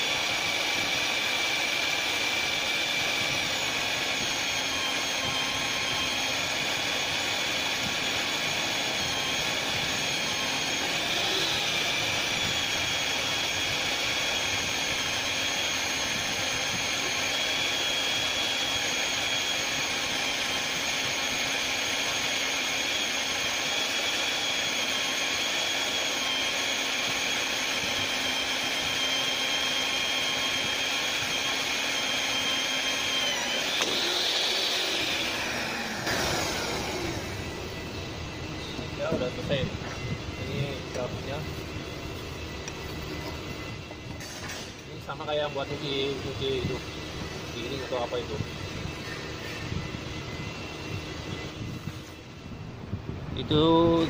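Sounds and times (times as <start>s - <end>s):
cutter grinding steel: 0.0s - 52.3s
drill motor whine: 0.0s - 54.0s.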